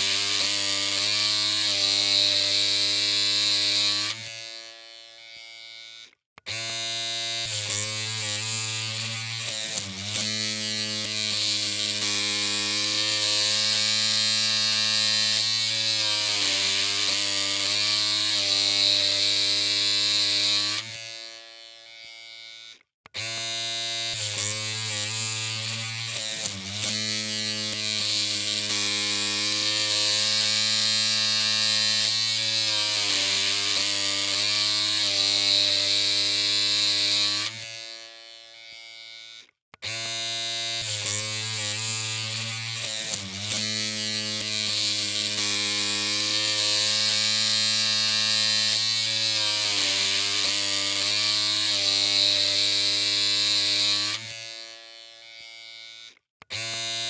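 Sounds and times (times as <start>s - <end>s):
electric hair clippers buzzing: 0.0s - 57.0s.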